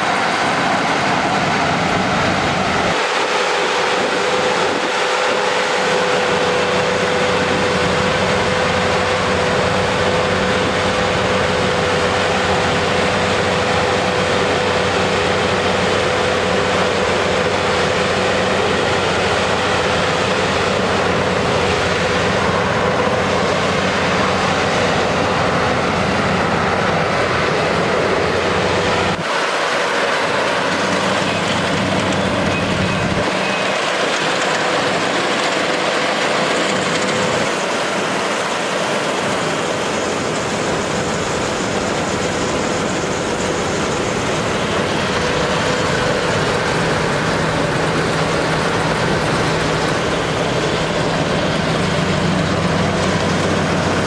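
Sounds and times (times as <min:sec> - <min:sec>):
combine harvester running: 0:00.0 - 0:54.0
constant mechanical whine: 0:00.0 - 0:54.0.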